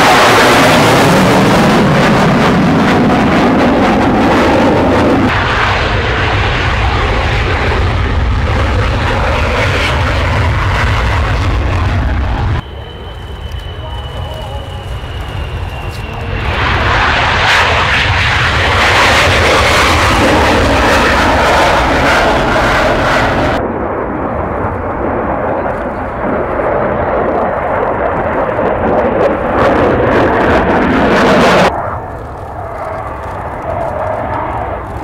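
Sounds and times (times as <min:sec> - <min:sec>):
jet engines at takeoff power: 0:00.0 - 0:35.0
jet flying overhead: 0:00.0 - 0:35.0.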